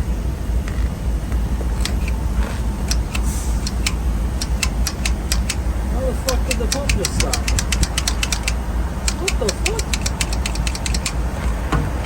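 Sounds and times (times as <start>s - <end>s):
diesel truck engine idling: 0.0s - 12.0s
rapid sharp ticking: 1.8s - 12.0s.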